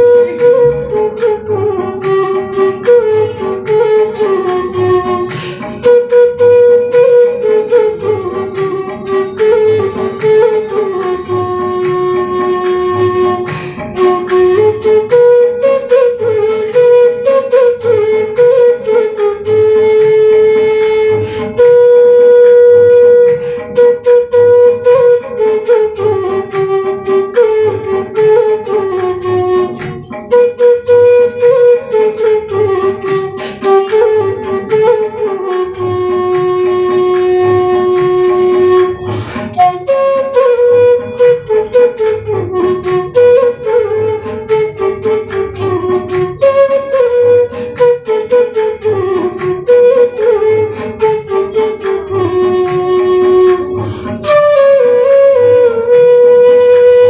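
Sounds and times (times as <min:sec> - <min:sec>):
bamboo flute melody: 0:00.0 - 0:57.0.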